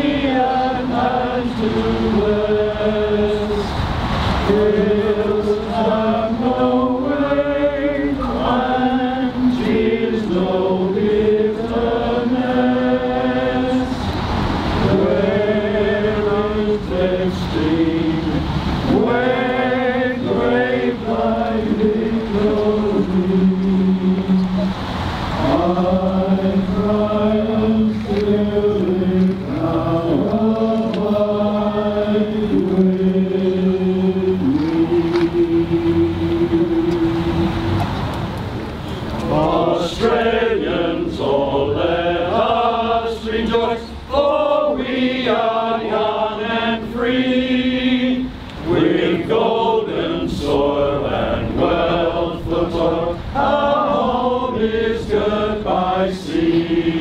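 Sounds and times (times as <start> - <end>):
crowd singing together: 0.0 - 57.0.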